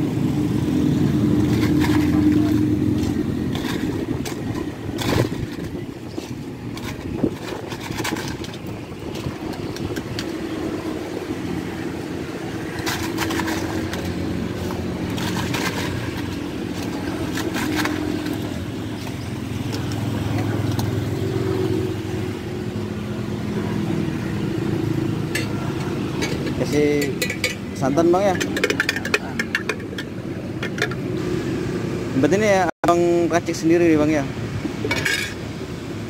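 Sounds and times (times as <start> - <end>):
motor traffic: 0.0 - 36.0.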